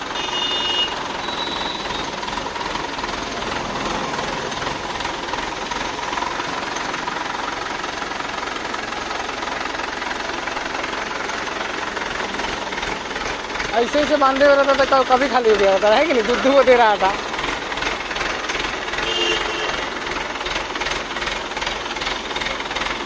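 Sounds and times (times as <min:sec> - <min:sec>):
diesel engine clattering: 0:00.0 - 0:23.0.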